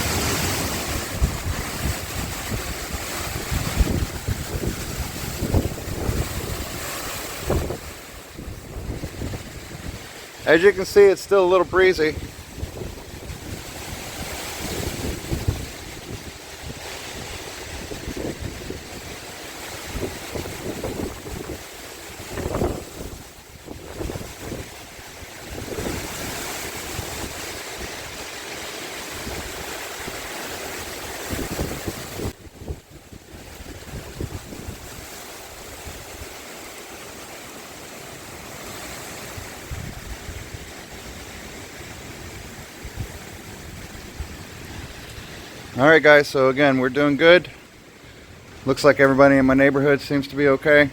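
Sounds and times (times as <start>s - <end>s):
wind buffeting microphone: 0.0s - 36.6s, 38.5s - 50.9s
hiss of breeze: 0.0s - 50.9s
wind through trees: 0.0s - 50.9s.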